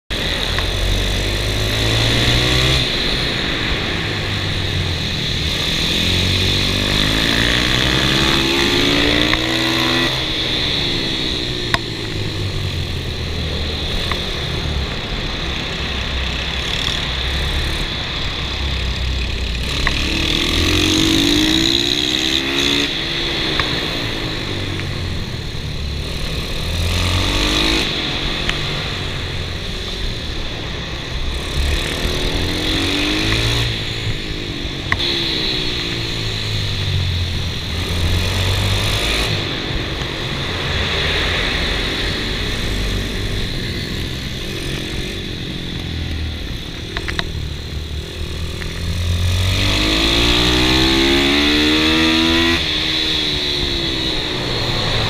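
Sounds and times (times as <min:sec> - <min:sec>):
motorbike engine revving: 0:00.1 - 0:55.0.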